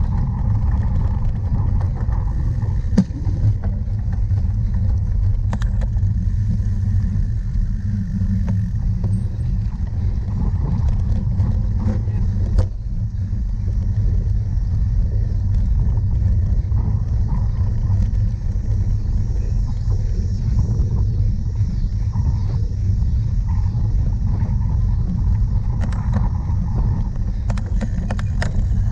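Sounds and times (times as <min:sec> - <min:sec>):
sharp clicks and rattles: 0:00.0 - 0:19.9, 0:23.8 - 0:28.9
bike riding noise: 0:00.0 - 0:28.9
wind on microphone: 0:00.0 - 0:28.9.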